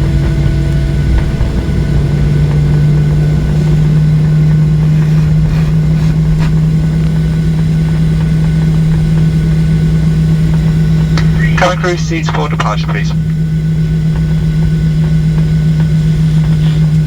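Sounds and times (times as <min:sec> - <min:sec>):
jet engines droning in cabin: 0:00.0 - 0:17.0.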